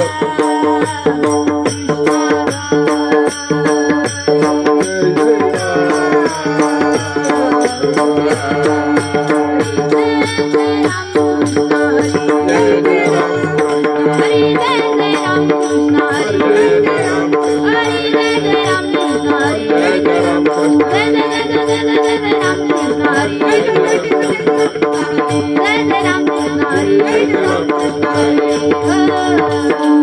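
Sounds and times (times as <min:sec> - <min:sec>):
percussion beat: 0:00.0 - 0:30.0
person singing devotional song: 0:00.0 - 0:30.0.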